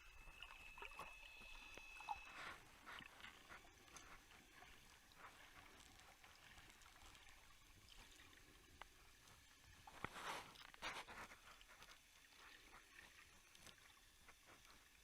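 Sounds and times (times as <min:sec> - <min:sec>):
faint hiss of water: 0:00.0 - 0:15.0.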